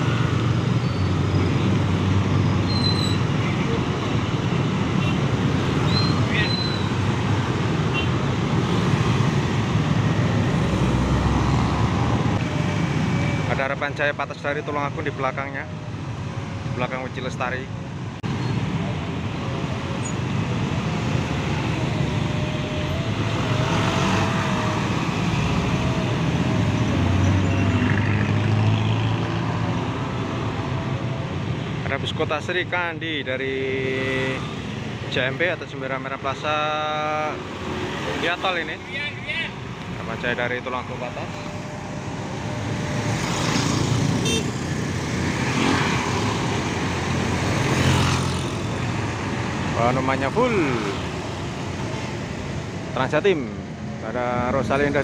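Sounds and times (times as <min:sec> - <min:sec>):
traffic engines idling: 0:00.0 - 0:55.0.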